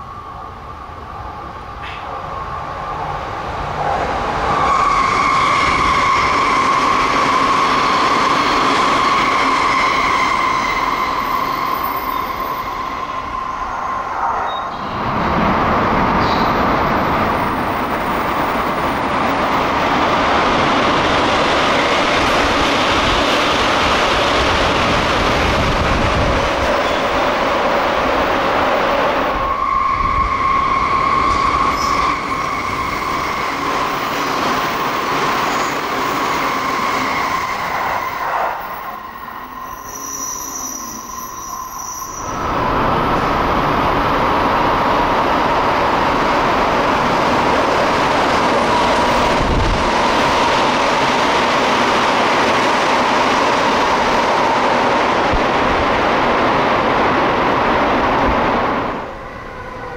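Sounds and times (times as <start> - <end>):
electric train high whine: 0.0 - 59.9
train rushing through station: 0.0 - 59.9.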